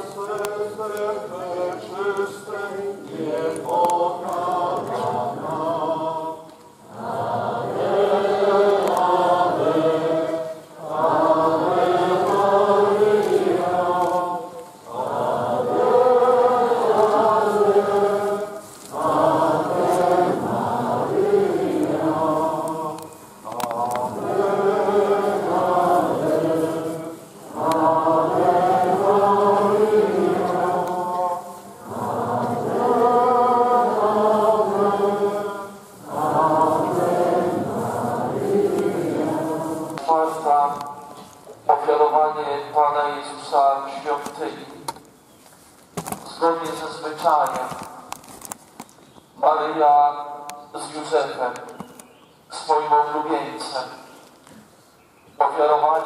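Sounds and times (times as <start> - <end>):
voices singing a slow hymn: 0.0 - 45.6.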